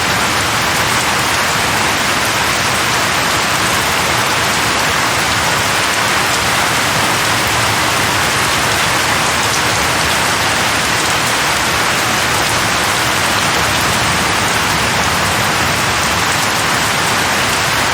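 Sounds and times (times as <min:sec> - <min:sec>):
heavy rain falling: 0:00.0 - 0:17.9.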